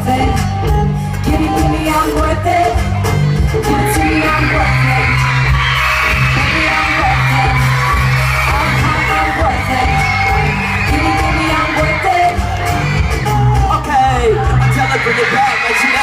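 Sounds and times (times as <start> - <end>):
pop dance music with heavy bass: 0.0 - 16.0
crowd yelling and cheering: 0.1 - 16.0.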